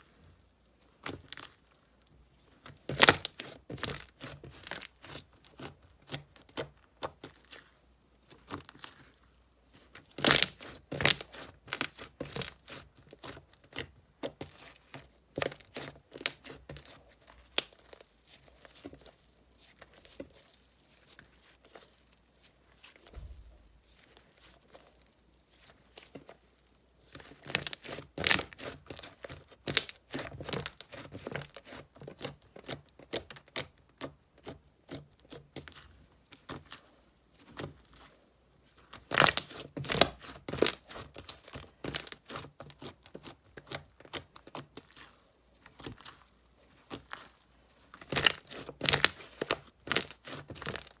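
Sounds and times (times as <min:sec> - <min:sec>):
slime squishing and crackling: 0:00.0 - 0:51.0.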